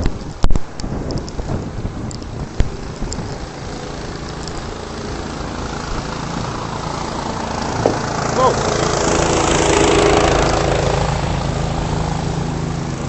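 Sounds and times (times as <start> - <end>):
vehicle engine running: 1.2 - 13.0.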